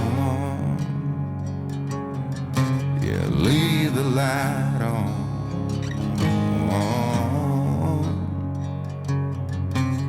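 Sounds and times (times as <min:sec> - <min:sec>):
country song with acoustic guitar: 0:00.0 - 0:10.0.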